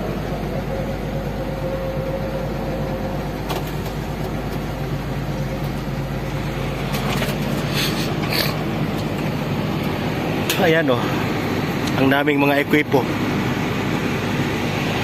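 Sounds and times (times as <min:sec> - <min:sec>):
diesel engine running: 0:00.0 - 0:15.0
high-pitched whine: 0:00.0 - 0:15.0.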